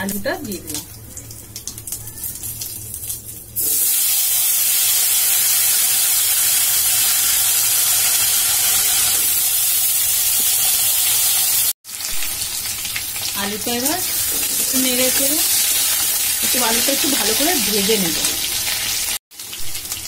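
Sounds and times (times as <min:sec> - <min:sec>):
spices crackling in oil: 0:00.0 - 0:20.0
potatoes sizzling in oil: 0:01.7 - 0:20.0.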